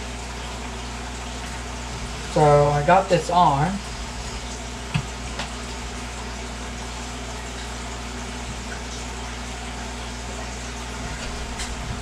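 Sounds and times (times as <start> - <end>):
aquarium air bubbling: 0.0 - 12.0
low steady hum: 0.0 - 12.0.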